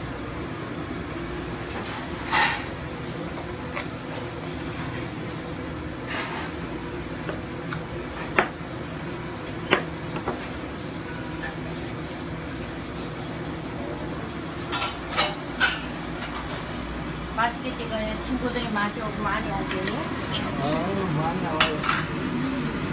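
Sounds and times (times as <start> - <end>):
kitchen hum: 0.0 - 22.9.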